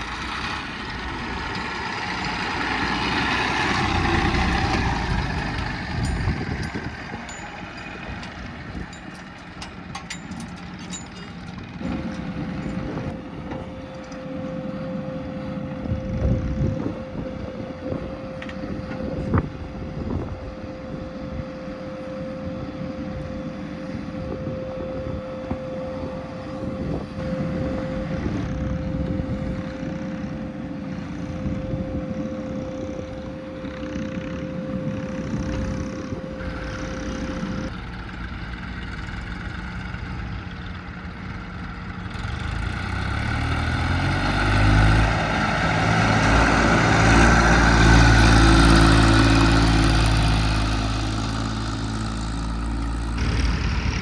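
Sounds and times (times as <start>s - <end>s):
heavy diesel machinery running: 0.0s - 54.0s
steady mechanical whine: 0.0s - 54.0s.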